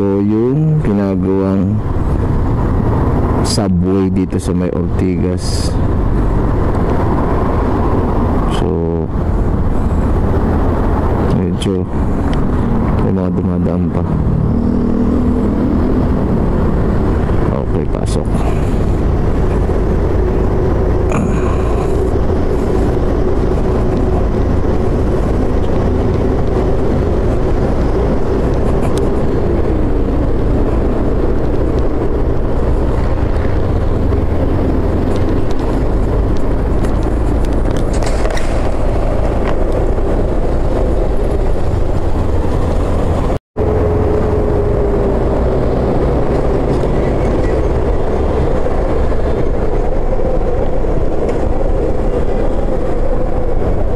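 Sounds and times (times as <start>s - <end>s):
motorcycle engine hum: 0.0s - 53.9s
wind rush on microphone: 0.0s - 53.9s.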